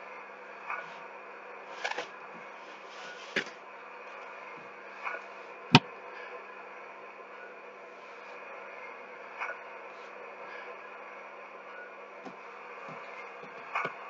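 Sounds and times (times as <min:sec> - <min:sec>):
steady faint hum: 0:00.0 - 0:14.0.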